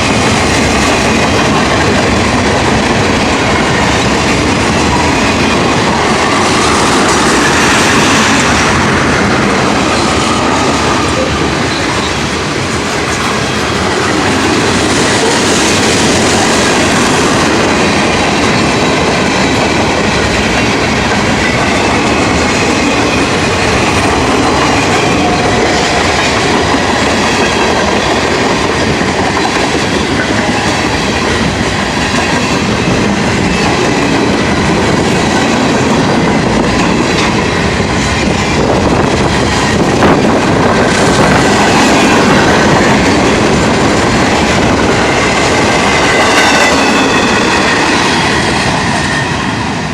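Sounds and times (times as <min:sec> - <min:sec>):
freight train wheels rumbling on rails: 0:00.0 - 0:49.9.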